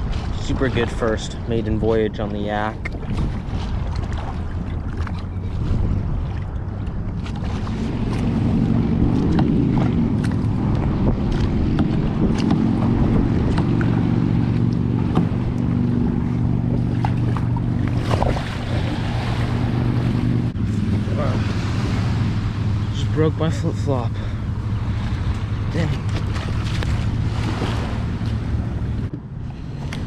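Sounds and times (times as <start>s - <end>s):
steady low hum: 0.0s - 30.0s
wind buffeting microphone: 0.0s - 30.0s
light knocks and splashes: 2.5s - 22.6s, 24.9s - 30.0s.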